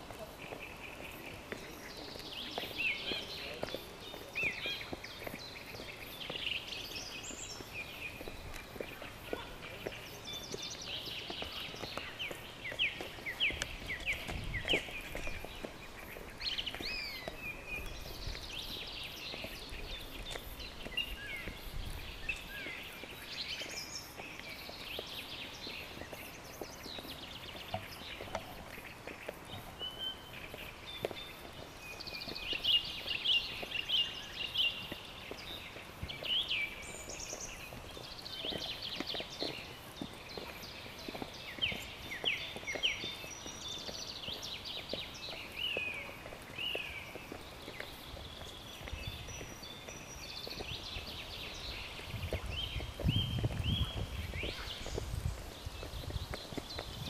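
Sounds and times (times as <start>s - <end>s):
birds singing: 0.0s - 57.0s
footsteps on stone steps: 0.0s - 57.0s.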